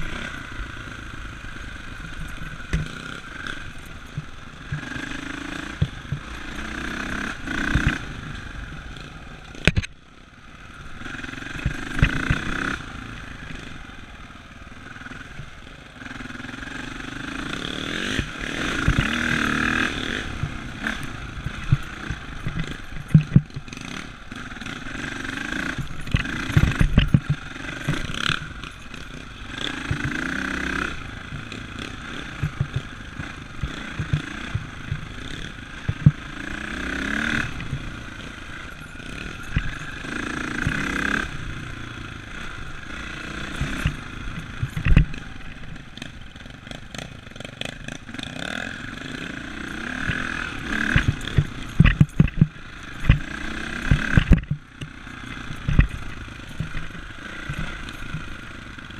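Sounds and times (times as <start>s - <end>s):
thumps and rattles of bike: 0.0s - 10.0s, 10.8s - 13.8s, 14.9s - 58.9s
dirt bike engine revving: 0.0s - 58.9s.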